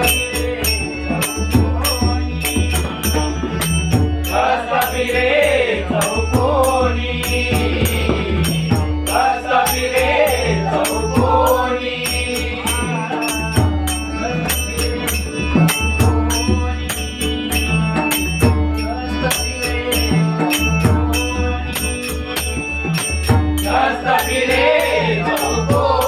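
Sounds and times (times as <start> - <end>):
devotional music: 0.0 - 26.0
hand drum rhythm: 0.0 - 26.0
metallic percussion: 0.0 - 26.0.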